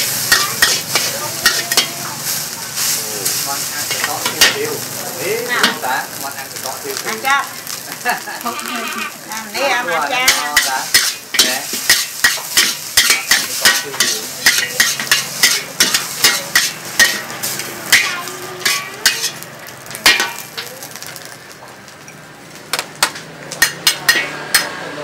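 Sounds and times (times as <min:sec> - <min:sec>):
food sizzling: 0:00.0 - 0:25.0
metal utensils clanking on wok: 0:00.0 - 0:25.0.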